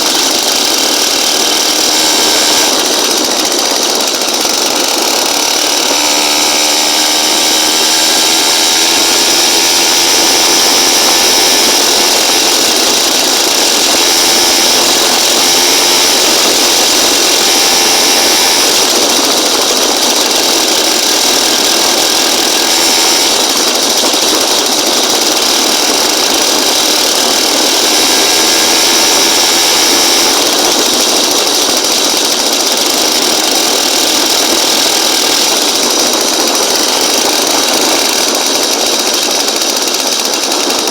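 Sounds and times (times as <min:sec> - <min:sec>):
small engine buzzing: 0:00.0 - 0:40.9.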